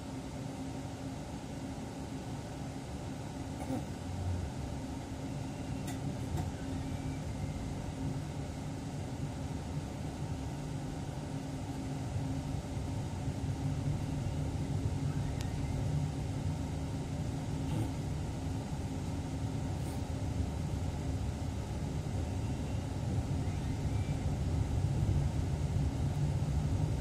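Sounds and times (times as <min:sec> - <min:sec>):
train rumble and hum: 0:00.0 - 0:27.0.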